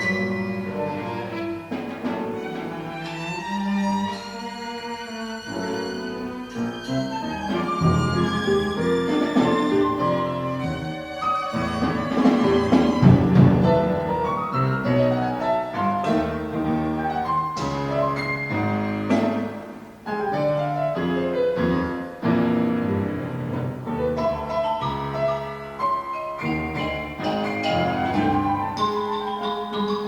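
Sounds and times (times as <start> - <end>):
chamber music quintet: 0.0 - 30.0.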